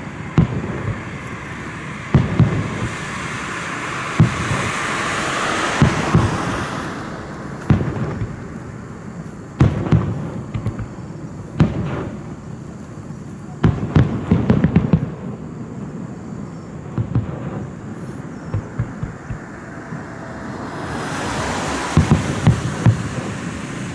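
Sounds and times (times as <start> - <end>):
hiss: 0.0 - 15.2, 17.1 - 23.9
fireworks booming: 0.0 - 23.9
fireworks crackling: 0.0 - 23.9.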